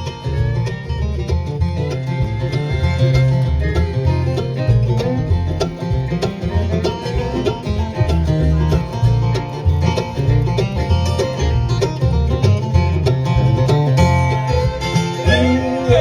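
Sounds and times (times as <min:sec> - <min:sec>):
banjo picking: 0:00.0 - 0:16.0
guitar picking: 0:00.0 - 0:16.0
walking bass line: 0:00.0 - 0:16.0.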